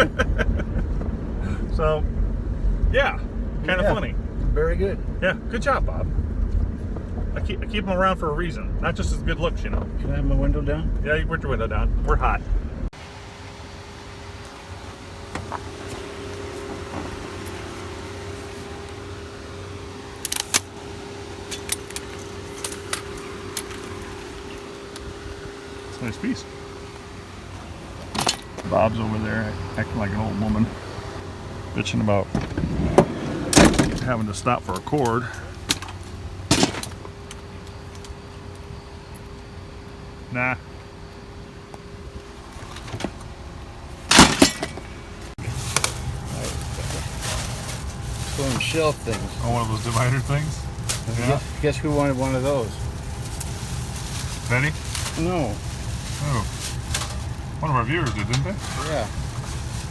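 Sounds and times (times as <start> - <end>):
truck engine and road hum: 0.0 - 59.9
vehicle rumbling: 0.0 - 59.9.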